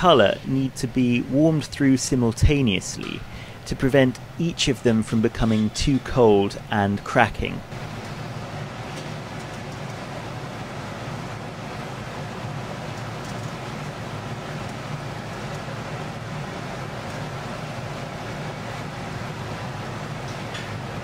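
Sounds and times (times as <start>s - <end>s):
gas furnace roaring: 0.0s - 21.0s.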